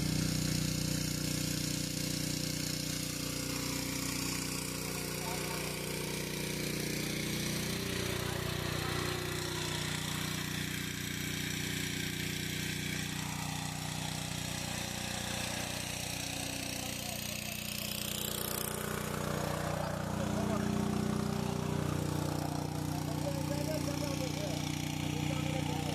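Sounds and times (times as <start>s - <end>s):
engine humming steadily: 0.0s - 25.9s.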